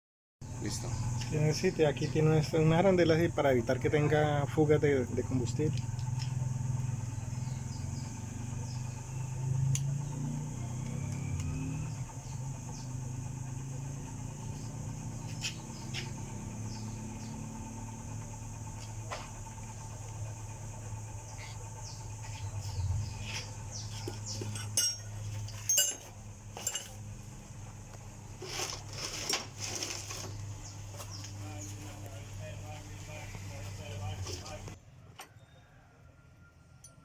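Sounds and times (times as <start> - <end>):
engine running low hum: 0.4 - 37.0.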